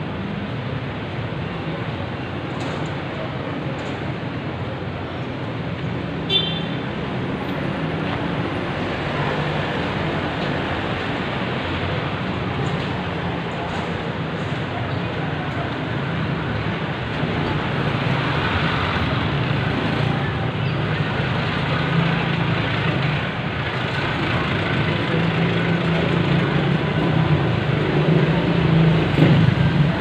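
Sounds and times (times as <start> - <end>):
road noise: 0.0 - 30.0
cars and motorcycles passing: 2.6 - 30.0.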